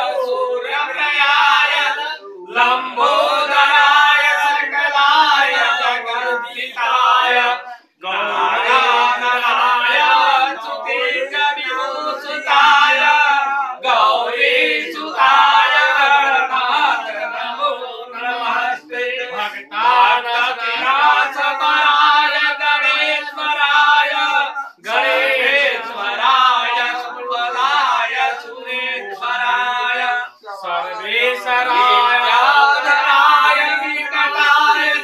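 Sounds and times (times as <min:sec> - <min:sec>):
men chanting together: 0:00.0 - 0:35.0.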